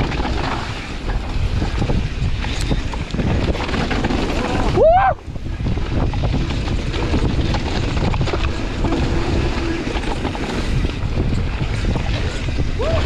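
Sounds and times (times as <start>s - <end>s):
bike rattling over rough ground: 0.0s - 13.0s
wind buffeting microphone: 0.0s - 13.0s.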